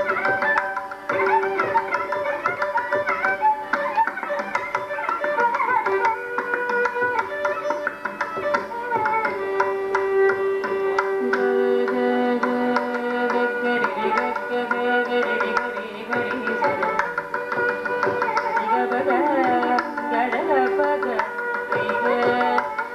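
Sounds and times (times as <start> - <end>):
violin melody with slides: 0.0 - 22.9.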